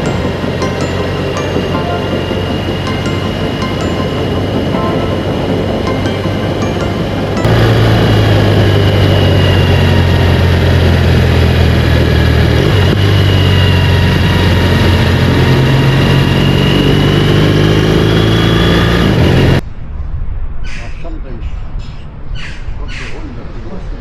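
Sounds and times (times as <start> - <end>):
motorcycle engine cruising: 0.0 - 19.6.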